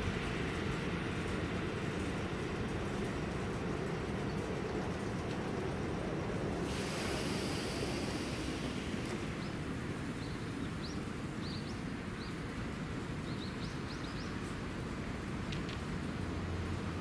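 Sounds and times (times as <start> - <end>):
distant traffic: 0.0 - 17.0
wind rumble: 0.0 - 17.0.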